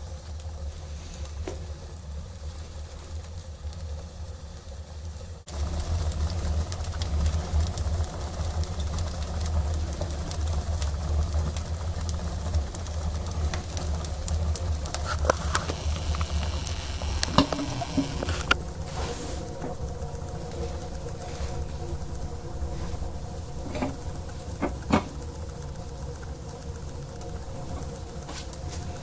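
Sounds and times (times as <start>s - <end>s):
fire draft rumbling: 0.0s - 29.0s
wood fire crackling and popping: 0.0s - 29.0s.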